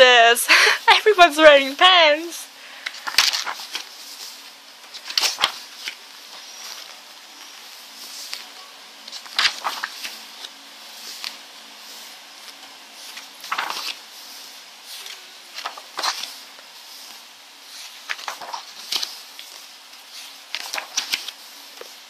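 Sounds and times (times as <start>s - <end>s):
faint steady hum: 0.0s - 22.0s
pages turning: 2.8s - 22.0s.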